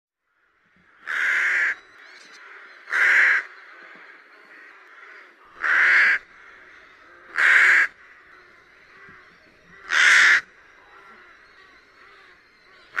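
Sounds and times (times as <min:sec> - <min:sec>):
rook cawing: 0:00.3 - 0:13.0.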